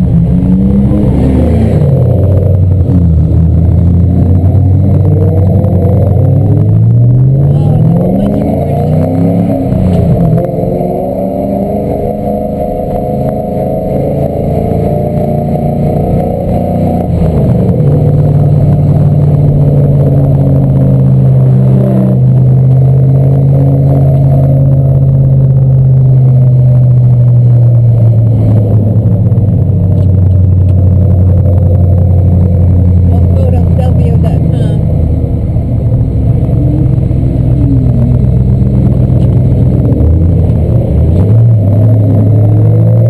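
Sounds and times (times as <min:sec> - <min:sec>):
car engine pulling uphill: 0:00.0 - 0:43.0.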